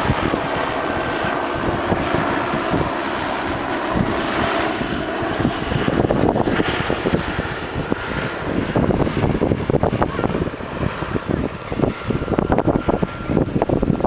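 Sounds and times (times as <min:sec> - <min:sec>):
engine drone: 0:00.0 - 0:14.0
wind buffeting microphone: 0:00.0 - 0:14.0.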